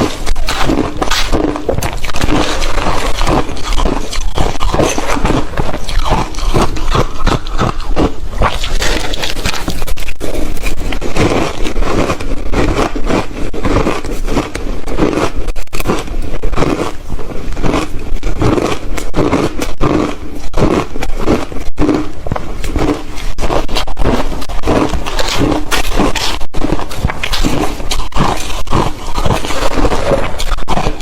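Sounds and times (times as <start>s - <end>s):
ice being chewed: 0.0s - 31.0s.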